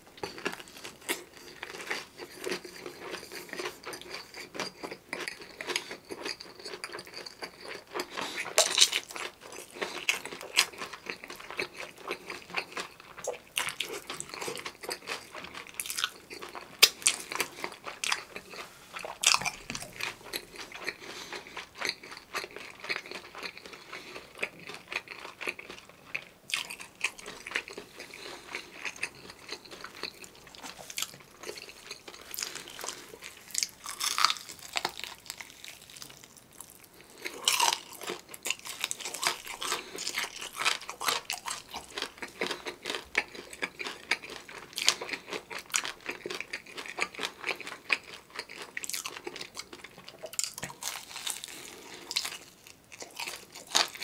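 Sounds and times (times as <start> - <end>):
crisp chewing crunches: 0.2 - 54.0.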